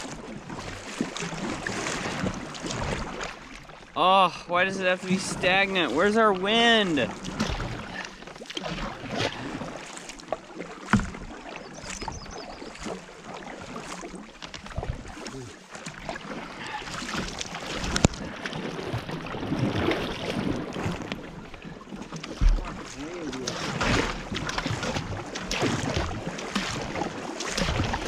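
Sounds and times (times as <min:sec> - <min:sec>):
paddle splashing: 0:00.0 - 0:28.0
water washing along hull: 0:00.0 - 0:28.0.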